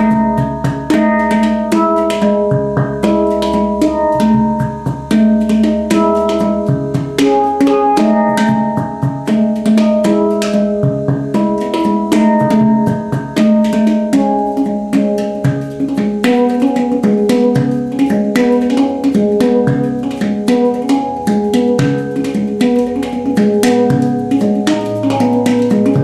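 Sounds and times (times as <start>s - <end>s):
handpan notes ringing: 0.0s - 26.0s.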